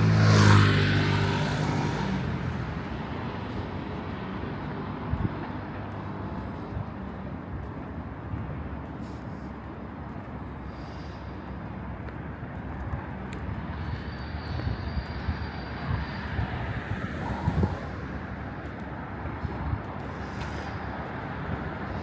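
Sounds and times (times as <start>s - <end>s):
city noise rumble: 0.0s - 22.0s.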